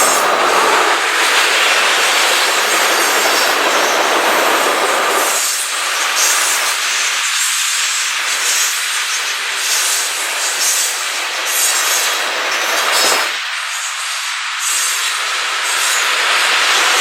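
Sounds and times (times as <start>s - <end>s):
train wheels hissing on rail: 0.0s - 17.0s.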